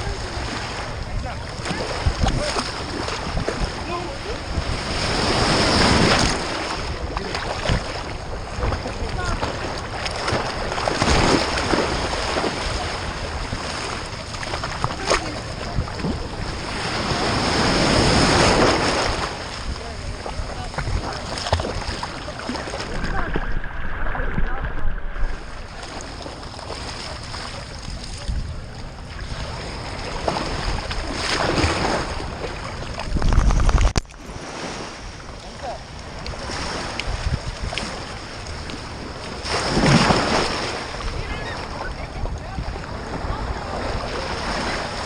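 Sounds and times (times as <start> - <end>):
ocean surf washing: 0.0 - 45.0
wind buffeting microphone: 0.0 - 45.0.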